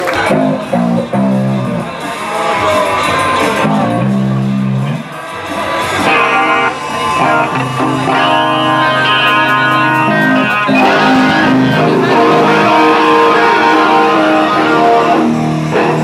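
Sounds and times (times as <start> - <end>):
band music with electric guitar: 0.0 - 16.0.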